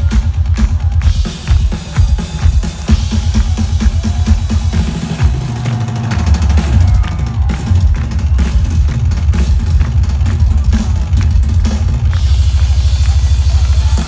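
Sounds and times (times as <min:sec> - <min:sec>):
drum kit hits and fills: 0:00.0 - 0:14.0
live rock music: 0:00.0 - 0:14.0.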